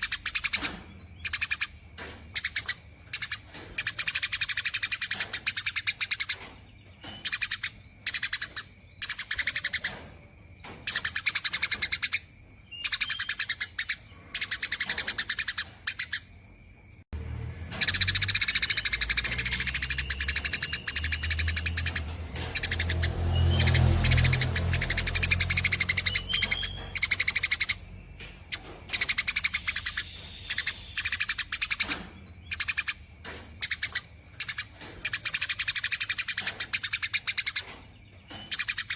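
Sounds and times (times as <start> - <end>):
sparrow chattering trills: 0.0 - 17.0, 17.7 - 38.9.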